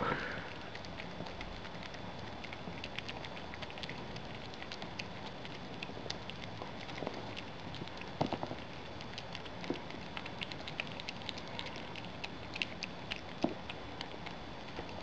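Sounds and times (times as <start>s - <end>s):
possum chewing wet clicks: 0.0s - 15.0s.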